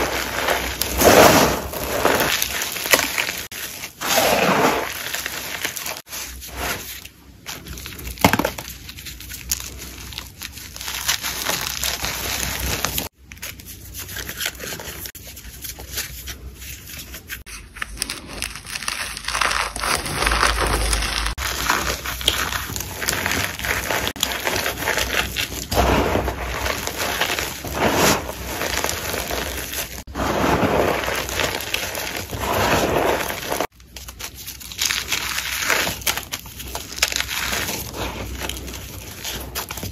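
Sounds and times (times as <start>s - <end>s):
chalk crumbling by hand: 0.0s - 39.9s.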